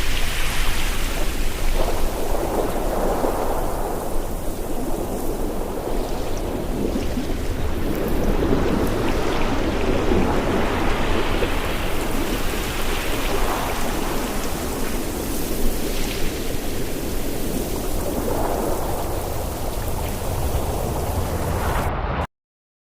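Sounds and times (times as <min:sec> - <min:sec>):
ocean surf: 0:00.0 - 0:22.3
wind: 0:00.0 - 0:22.3.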